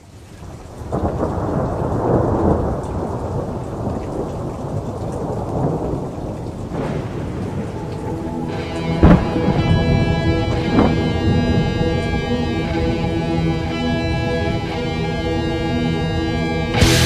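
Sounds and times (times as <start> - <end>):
steady rain: 0.0 - 17.0
rolling thunder: 0.4 - 17.0.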